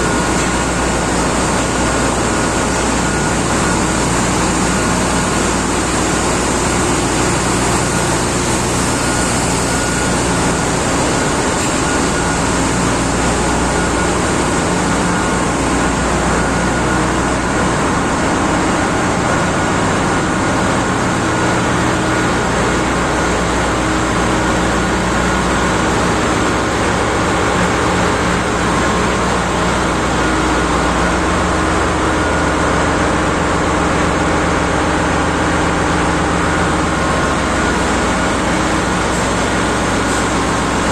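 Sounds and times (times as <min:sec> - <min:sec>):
ship engine room machinery: 0:00.0 - 0:40.9.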